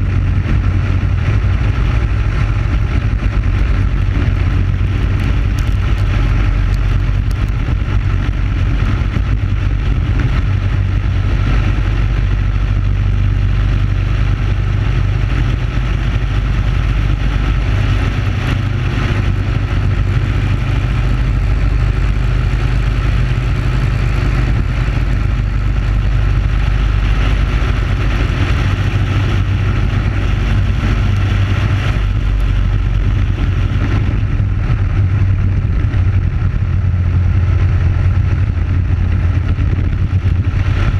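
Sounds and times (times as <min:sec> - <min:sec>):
kart engine droning: 0:00.0 - 0:40.9.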